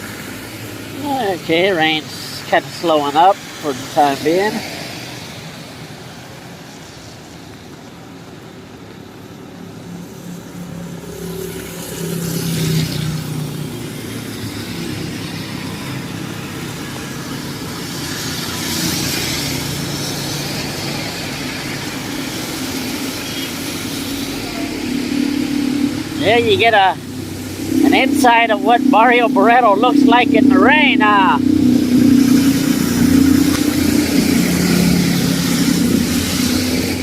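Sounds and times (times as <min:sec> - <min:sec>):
tyre hiss on wet road: 0:00.0 - 0:26.3, 0:32.4 - 0:37.0
vehicle engines running: 0:00.0 - 0:37.0.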